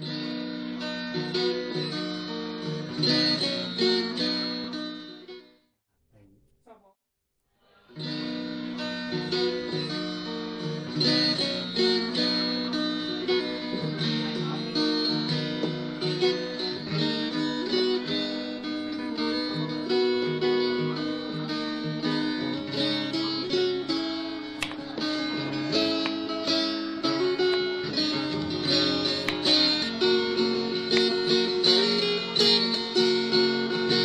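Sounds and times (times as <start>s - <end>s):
plucked acoustic guitar music: 0.0s - 5.5s, 7.8s - 34.0s.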